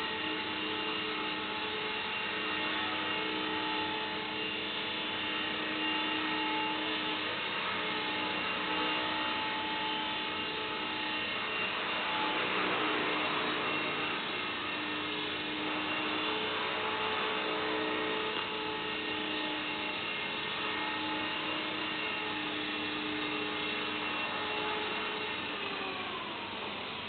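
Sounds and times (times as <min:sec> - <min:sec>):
toy helicopter whining: 0:00.0 - 0:27.0.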